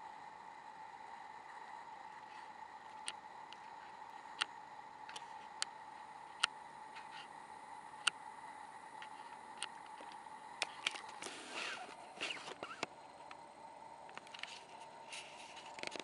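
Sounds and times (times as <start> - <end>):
faint high hum: 0.0 - 16.0
light hiss: 0.0 - 16.0.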